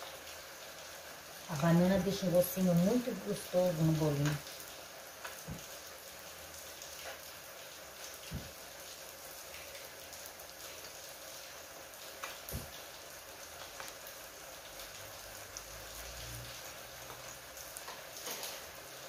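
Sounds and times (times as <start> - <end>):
batter deep-frying in oil: 0.0 - 19.0.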